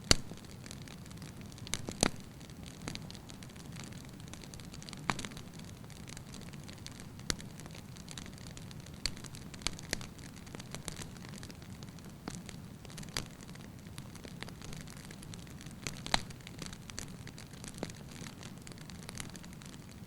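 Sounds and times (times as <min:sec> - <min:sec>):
logs popping and crackling: 0:00.0 - 0:20.0
low rumble of fire: 0:00.0 - 0:20.0.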